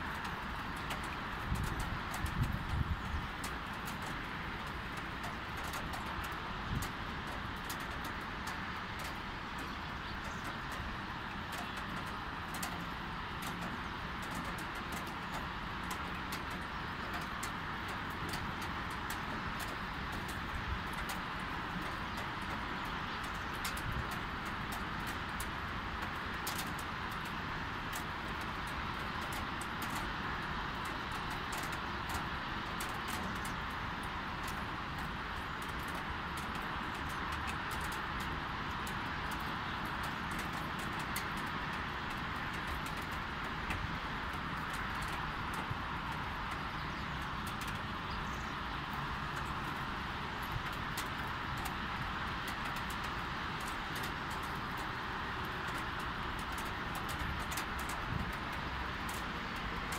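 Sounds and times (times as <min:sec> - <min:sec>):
distant city traffic hum: 0:00.0 - 0:59.9
light rain hissing: 0:00.0 - 0:59.9
raindrops ticking: 0:00.0 - 0:59.9.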